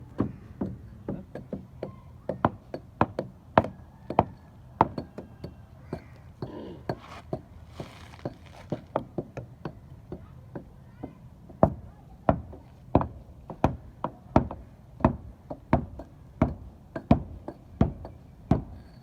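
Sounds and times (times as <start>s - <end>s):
hand tools knocking on concrete: 0.1s - 19.0s.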